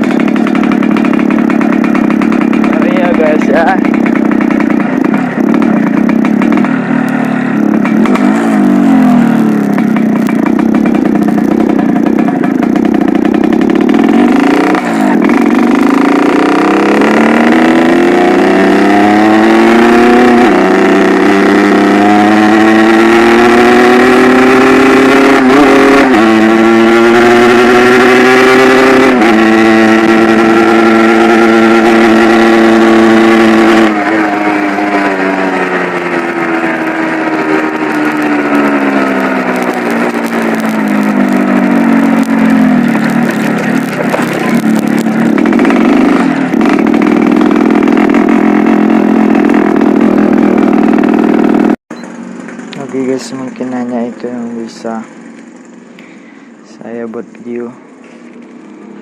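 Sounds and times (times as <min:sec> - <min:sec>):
two-stroke motorcycle engine growling: 0:00.0 - 0:59.0.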